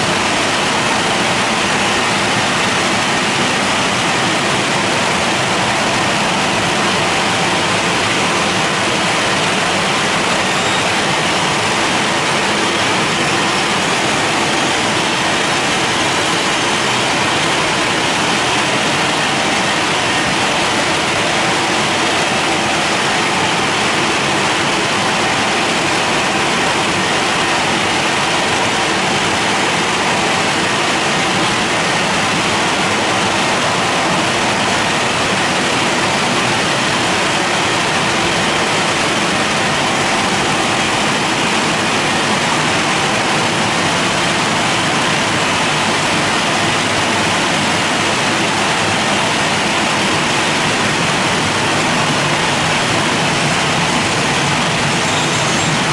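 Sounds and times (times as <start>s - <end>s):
car wash blowers rushing air: 0.0s - 55.9s.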